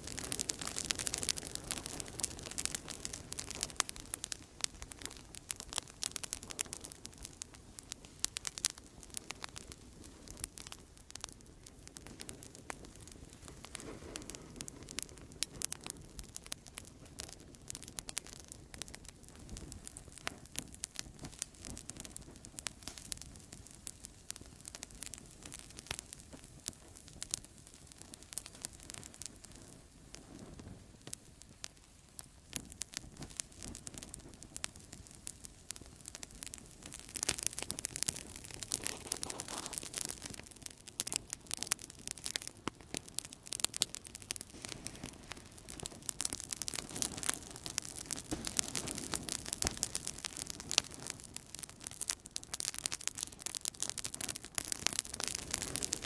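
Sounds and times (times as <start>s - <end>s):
campfire crackling and popping: 0.0s - 56.0s
low rumble of burning wood: 0.0s - 56.0s.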